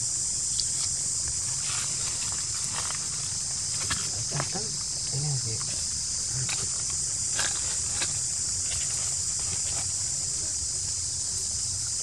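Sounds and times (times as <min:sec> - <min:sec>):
forest insect chorus: 0:00.0 - 0:12.0.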